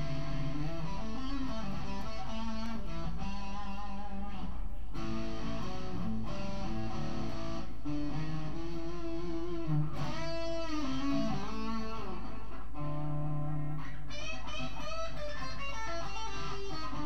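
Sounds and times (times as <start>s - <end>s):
blues electric guitar: 0.0s - 17.0s.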